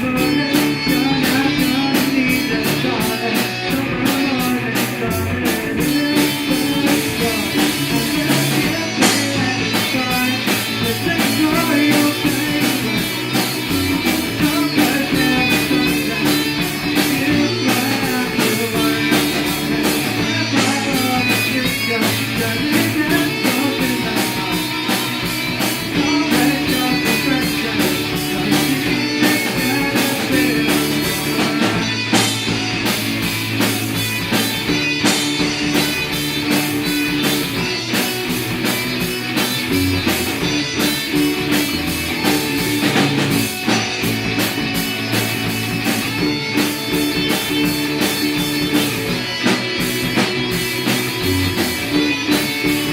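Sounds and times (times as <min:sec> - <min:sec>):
rock band playing: 0:00.0 - 0:52.9.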